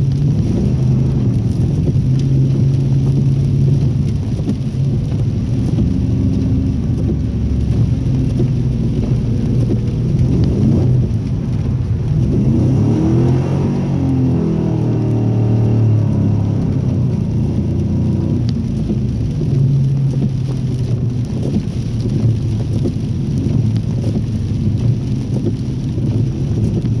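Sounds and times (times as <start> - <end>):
car engine revving: 0.0 - 27.0
low rumble and hiss: 0.0 - 27.0.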